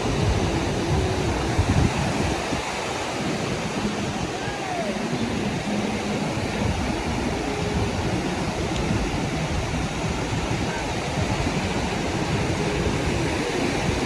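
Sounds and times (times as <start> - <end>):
sea surf on sandy beach: 0.0 - 14.0.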